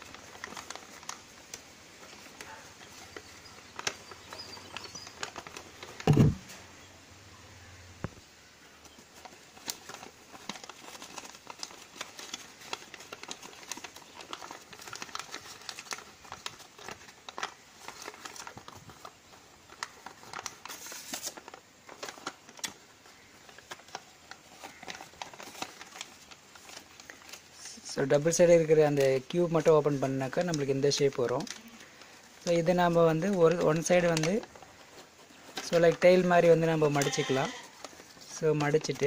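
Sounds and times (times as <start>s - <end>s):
paper rustling and folding: 0.0s - 6.7s, 8.1s - 39.0s.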